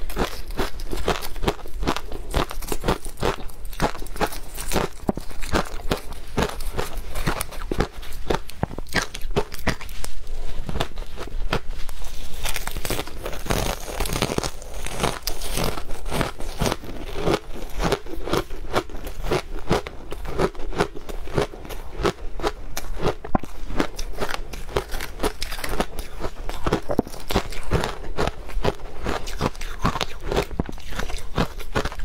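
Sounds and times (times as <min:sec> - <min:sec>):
shaved ice crunched and chewed: 0:00.0 - 0:32.0.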